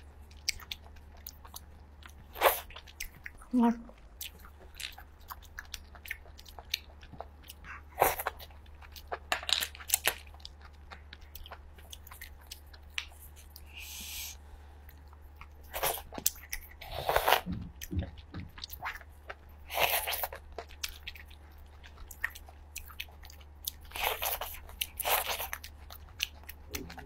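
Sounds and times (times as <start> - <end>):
chewing and crunching shellfish: 0.0 - 13.8, 14.8 - 27.0.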